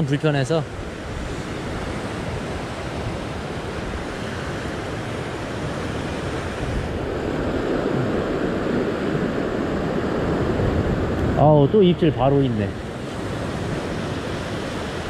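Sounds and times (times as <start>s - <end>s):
ocean surf washing over rocks: 0.0s - 15.0s.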